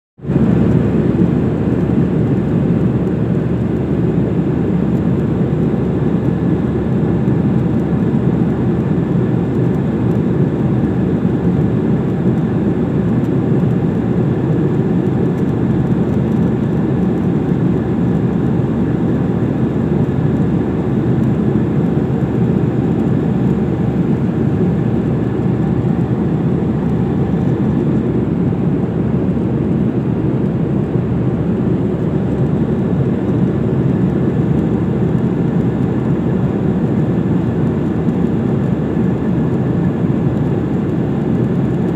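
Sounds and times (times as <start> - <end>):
airliner cabin noise: 0.3 - 41.9.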